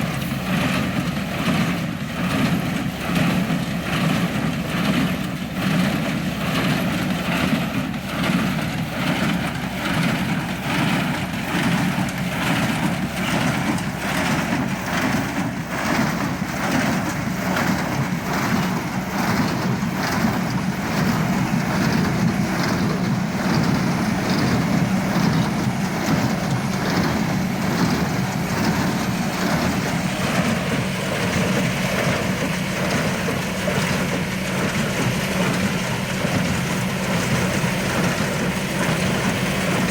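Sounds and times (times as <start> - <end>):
square baler working: 0.0 - 39.9
tractor engine under load: 0.0 - 39.9.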